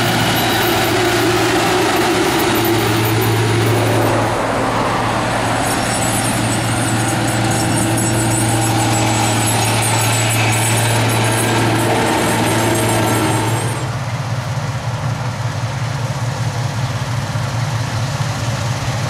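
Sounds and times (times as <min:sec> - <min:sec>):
diesel farm machinery running: 0:00.0 - 0:19.0.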